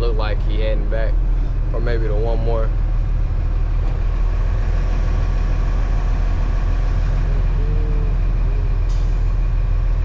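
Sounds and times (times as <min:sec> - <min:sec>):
road noise: 0:00.0 - 0:10.0
truck diesel engine drone: 0:00.0 - 0:10.0.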